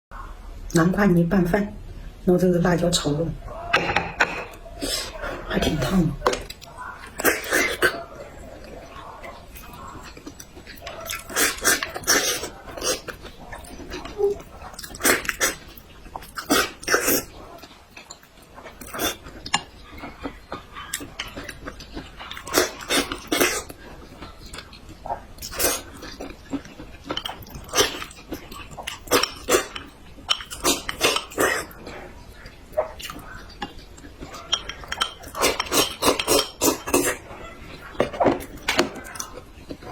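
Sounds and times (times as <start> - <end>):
wet chewing and lip-smacking: 6.2 - 39.9.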